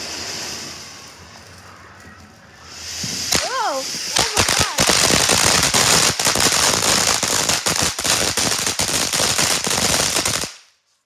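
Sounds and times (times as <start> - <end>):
firework hissing and crackling: 0.0 - 10.7.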